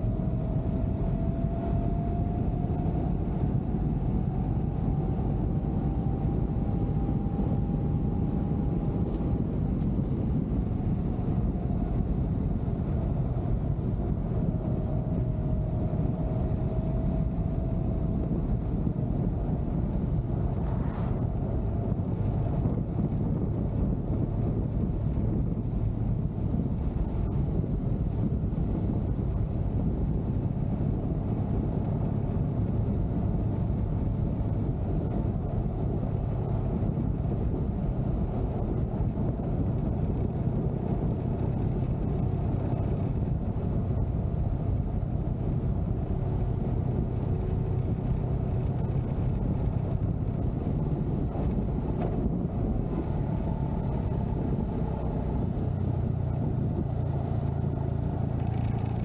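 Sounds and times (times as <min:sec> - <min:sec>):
motorcycle engine cruising: 0:00.0 - 0:59.0
wind noise: 0:00.0 - 0:59.0.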